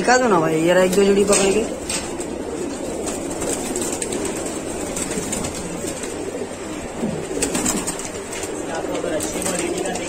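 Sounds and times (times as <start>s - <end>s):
pigeons cooing: 0.0s - 10.0s
wings flapping: 0.0s - 10.0s.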